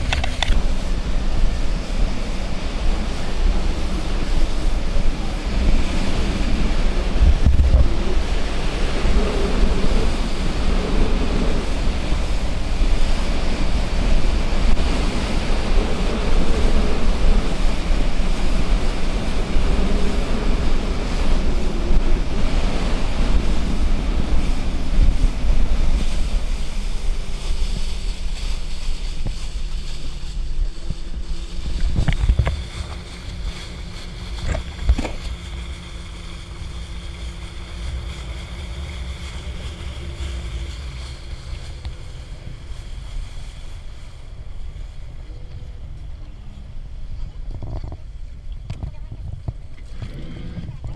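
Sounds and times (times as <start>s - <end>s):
boat motor hum: 0.0s - 50.9s
water rushing past boat hull: 0.0s - 50.9s
wind buffeting microphone: 0.0s - 50.9s.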